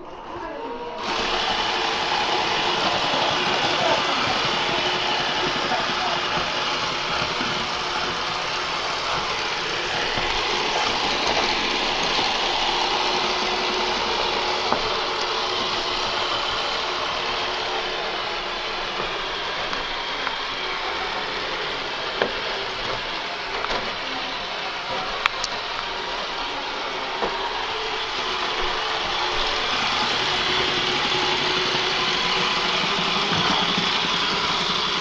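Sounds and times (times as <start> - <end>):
robot vacuum whirring: 0.0 - 35.0.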